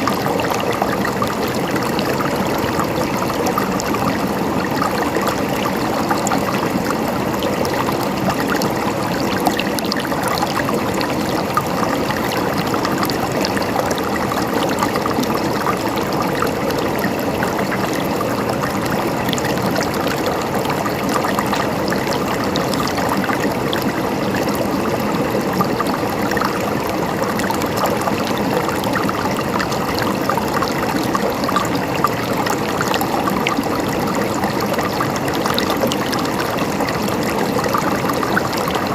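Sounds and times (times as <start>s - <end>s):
river water babbling over stones: 0.0s - 38.9s.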